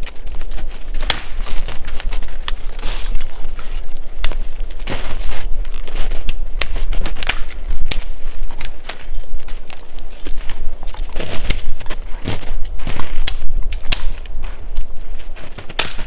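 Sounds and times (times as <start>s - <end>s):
brush rustling: 0.0s - 16.0s
dry branches snapping: 0.0s - 16.0s.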